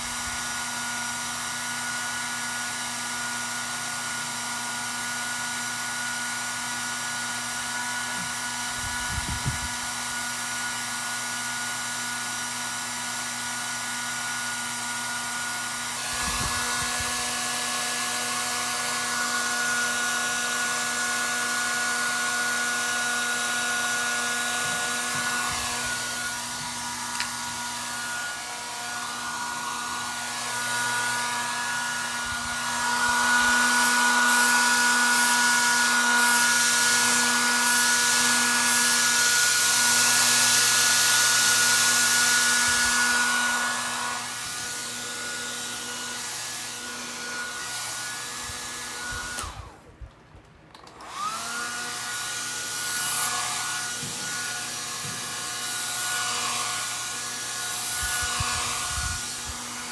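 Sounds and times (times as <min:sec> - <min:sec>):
electric blower whining: 0:00.0 - 0:59.9.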